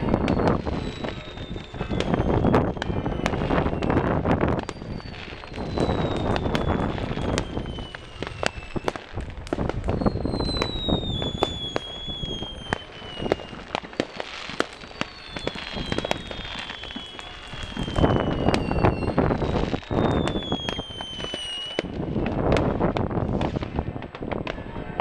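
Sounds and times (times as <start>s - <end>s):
distant firework bangs: 0.0s - 25.0s
firecrackers crackling: 0.0s - 25.0s
whistling fireworks: 0.0s - 25.0s.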